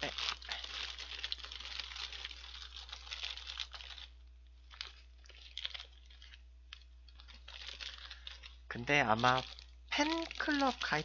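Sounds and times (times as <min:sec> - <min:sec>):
paper wrapping rustling: 0:00.0 - 0:11.0.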